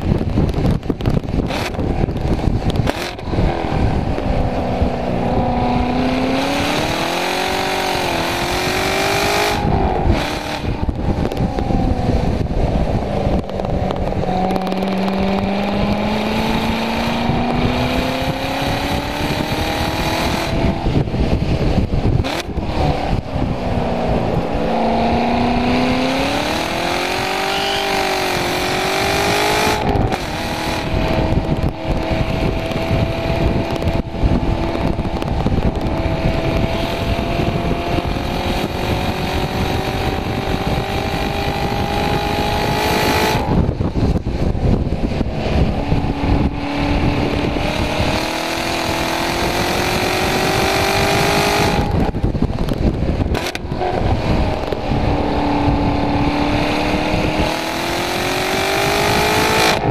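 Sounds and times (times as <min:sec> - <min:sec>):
car engine accelerating: 0:00.0 - 0:59.9
wind noise: 0:00.0 - 0:59.9.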